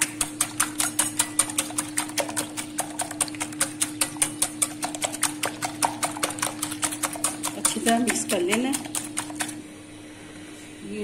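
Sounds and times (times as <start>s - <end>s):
whisk clicking in glass bowl: 0.0s - 9.6s.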